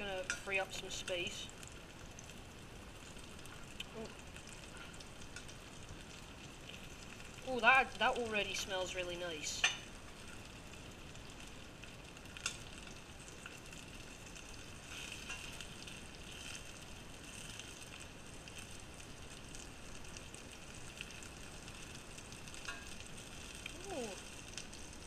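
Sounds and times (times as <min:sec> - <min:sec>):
fish frying in oil: 0:00.0 - 0:25.0.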